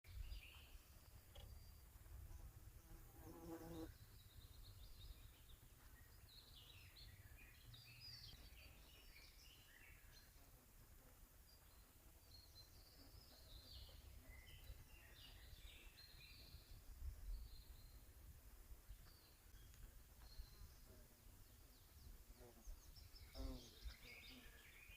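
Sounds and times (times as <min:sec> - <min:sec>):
small birds chirping: 0:00.1 - 0:24.9.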